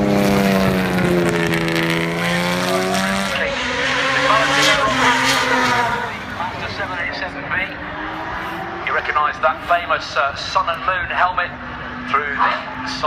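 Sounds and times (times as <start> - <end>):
race car accelerating: 0.0 - 13.0
racing car engines passing: 0.0 - 13.0.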